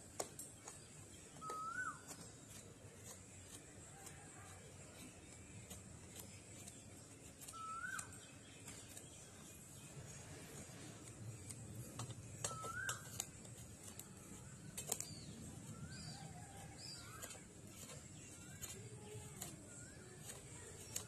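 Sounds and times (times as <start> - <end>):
birds chirping: 0.0 - 21.0
peeler scraping coconut: 0.1 - 21.0.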